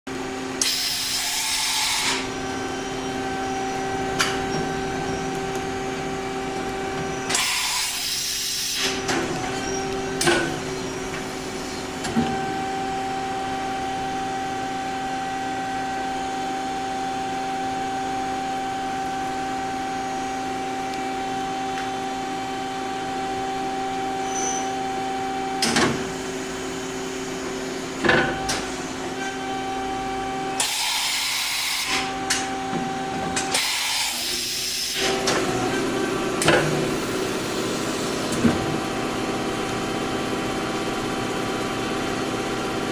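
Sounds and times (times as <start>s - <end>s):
machine hum: 0.1s - 42.9s.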